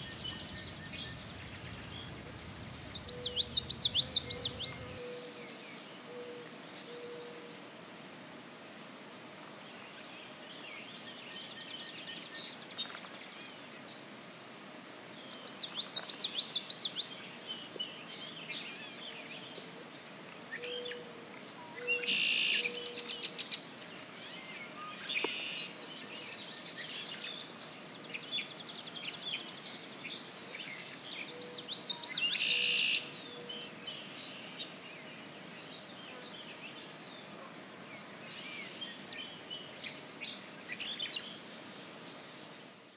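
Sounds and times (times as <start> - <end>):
songbirds singing: 0.0 - 8.2, 9.5 - 42.9.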